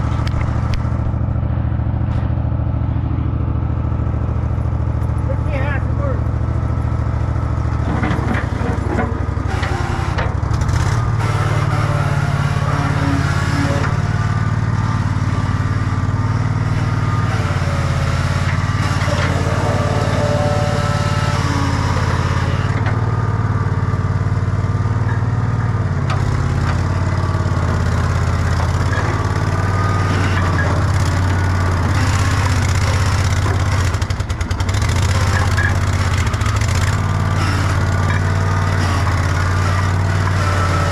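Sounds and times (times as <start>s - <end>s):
gas engine running: 0.0s - 40.9s.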